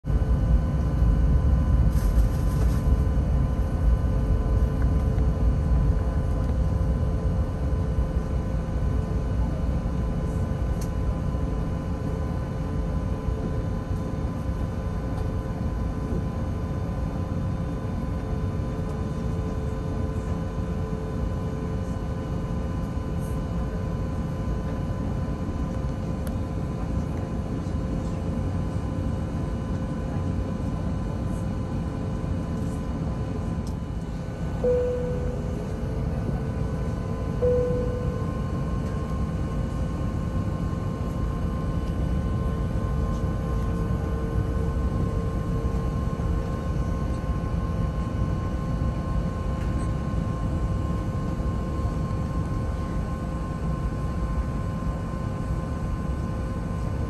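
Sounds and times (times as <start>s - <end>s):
jet engines rumbling in cabin: 0.1s - 57.0s.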